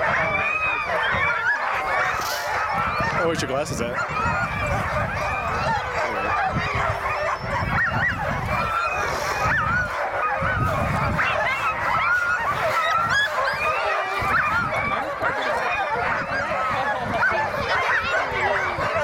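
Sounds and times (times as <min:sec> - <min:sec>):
dogs yelping and howling: 0:00.0 - 0:19.0
wind buffeting microphone: 0:00.0 - 0:19.0.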